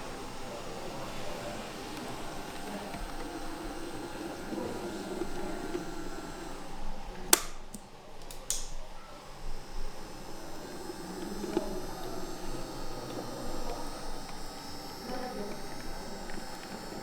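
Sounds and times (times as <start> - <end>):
background murmur: 0.0 - 17.0
sharp clicks: 0.0 - 17.0.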